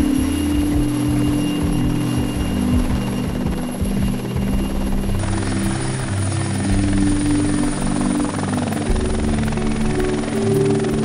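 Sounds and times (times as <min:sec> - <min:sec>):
helicopter engine drone: 0:00.0 - 0:11.0
helicopter rotor chop: 0:00.0 - 0:11.0.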